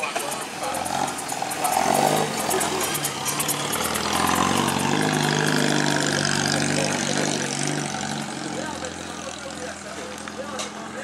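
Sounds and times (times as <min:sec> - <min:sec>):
car engine driving past: 0:00.2 - 0:11.0.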